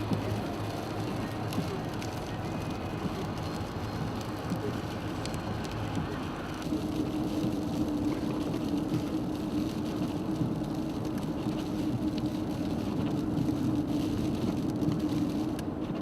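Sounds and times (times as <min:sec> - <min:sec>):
tyre and road noise: 0:00.0 - 0:16.0
vehicle engine drone: 0:00.0 - 0:16.0.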